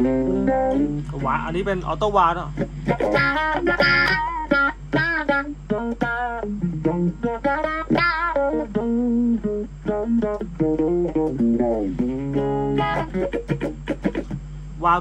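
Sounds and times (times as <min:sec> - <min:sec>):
electric guitar with wah effect: 0:00.0 - 0:15.0.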